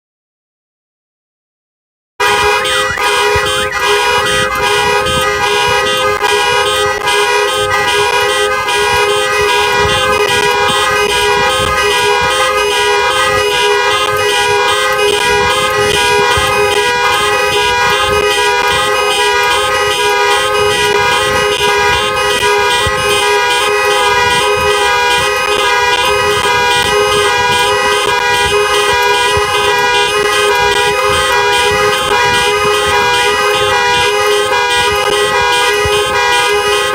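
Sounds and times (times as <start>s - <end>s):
loud continuous car horn blast: 2.2s - 36.9s.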